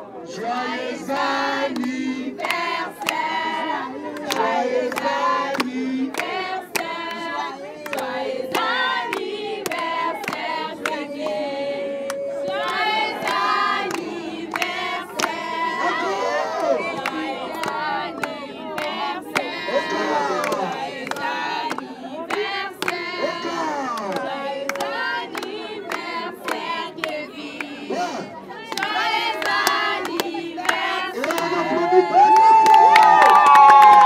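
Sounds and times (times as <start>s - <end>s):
group of people singing: 0.0s - 32.3s
people clapping in time: 0.4s - 34.0s.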